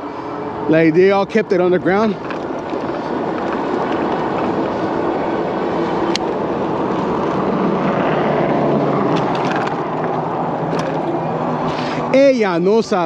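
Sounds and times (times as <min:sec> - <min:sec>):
street traffic rush: 0:00.0 - 0:13.0
vehicle passing: 0:00.0 - 0:13.0
wind on microphone: 0:01.6 - 0:12.1.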